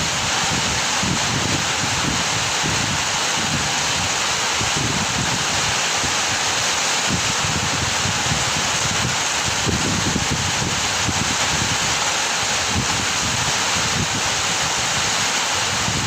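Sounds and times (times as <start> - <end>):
heavy rain falling: 0.0 - 16.0
wind gusting against microphone: 0.0 - 16.0.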